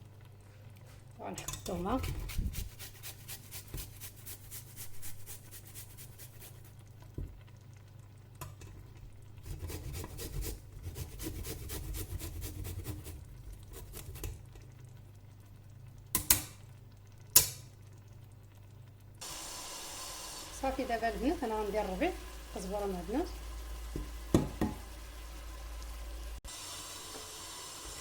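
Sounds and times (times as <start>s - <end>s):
food sizzling in oil: 1.2s - 10.7s, 11.6s - 28.0s.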